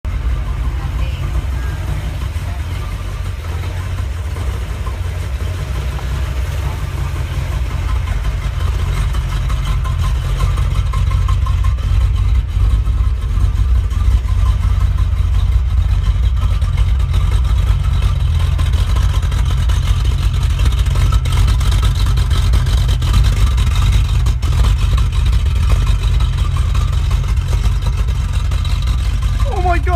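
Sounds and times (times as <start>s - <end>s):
car engine exhaust rumble: 0.0s - 29.9s.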